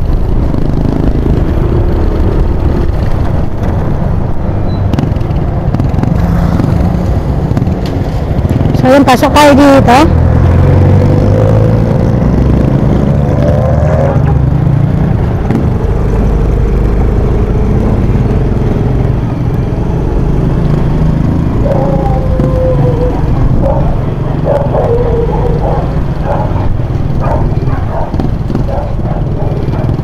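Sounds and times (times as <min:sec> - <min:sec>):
motorcycle engine running: 0:00.0 - 0:30.0
wind rumble on microphone: 0:00.0 - 0:30.0.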